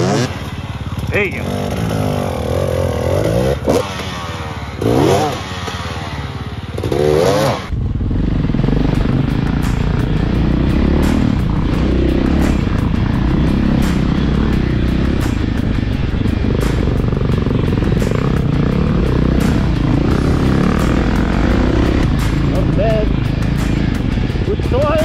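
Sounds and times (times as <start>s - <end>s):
dirt bike engine revving: 0.0s - 25.0s
trail bikes engine drone: 0.0s - 25.0s.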